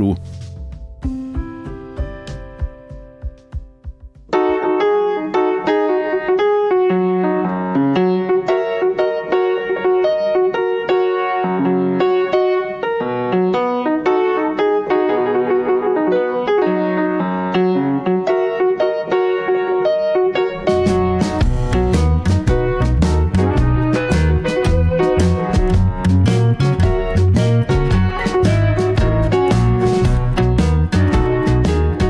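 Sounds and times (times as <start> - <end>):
instrumental keyboard music: 0.0 - 32.0.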